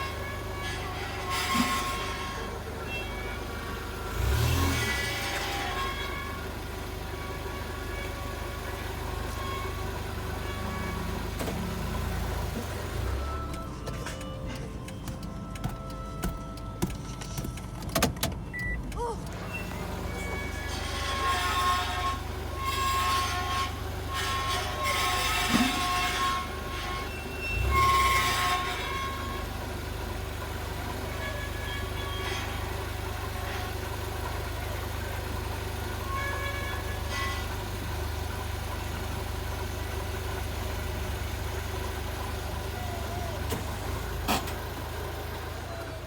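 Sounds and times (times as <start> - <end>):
high-pitched squeaks and rattles: 0.0 - 46.0
van engine humming: 0.0 - 46.0.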